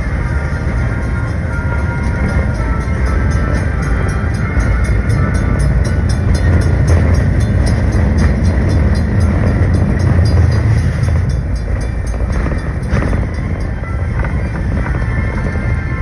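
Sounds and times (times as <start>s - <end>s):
train wheels rumbling on board: 0.0s - 16.0s.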